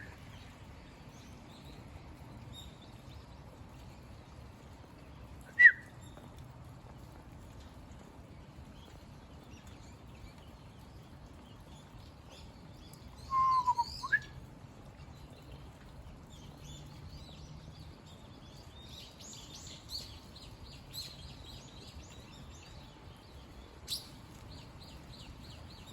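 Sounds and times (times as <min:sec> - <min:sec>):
rain hiss: 0:00.0 - 0:25.9.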